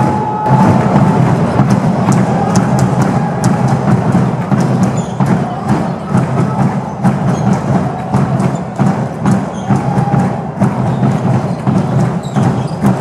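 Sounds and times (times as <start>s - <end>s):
music with steady percussion beat: 0.0s - 13.0s.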